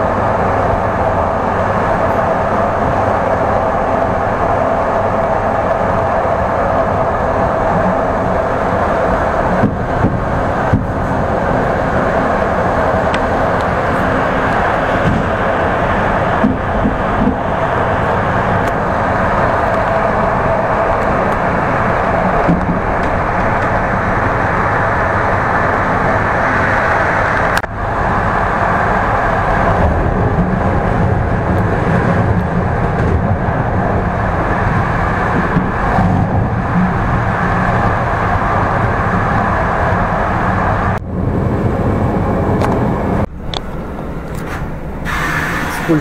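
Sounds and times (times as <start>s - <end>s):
train rumbling at speed: 0.0s - 46.0s.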